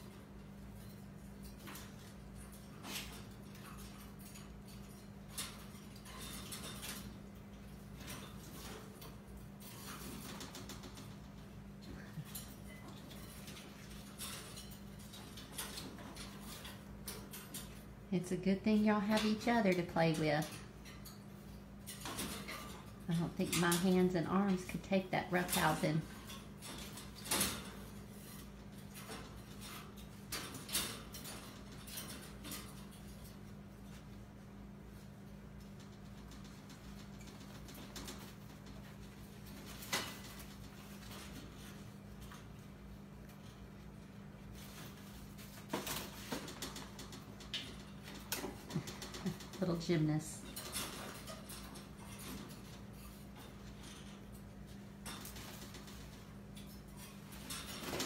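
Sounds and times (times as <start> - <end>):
claws rattling on metal cage bars: 0.0 - 18.1, 18.7 - 58.0
low steady hum: 0.0 - 58.0.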